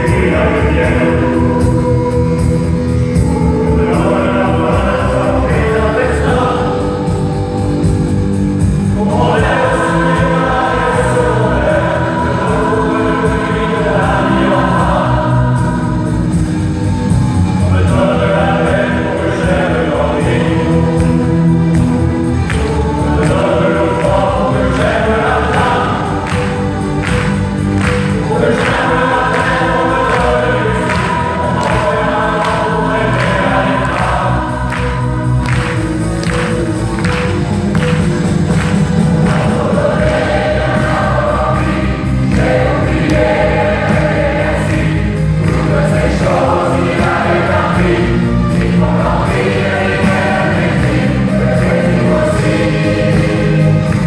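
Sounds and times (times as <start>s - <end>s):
keyboard accompaniment: 0.0s - 54.0s
large choir singing: 0.0s - 54.0s.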